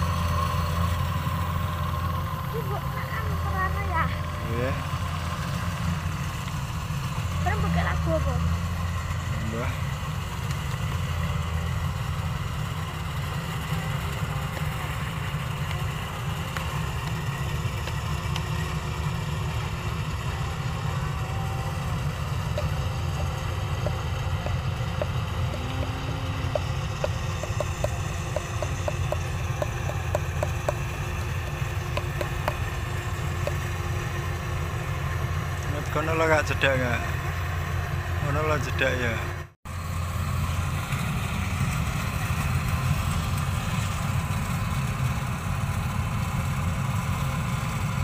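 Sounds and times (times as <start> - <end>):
combine harvester engine droning: 0.0 - 48.0.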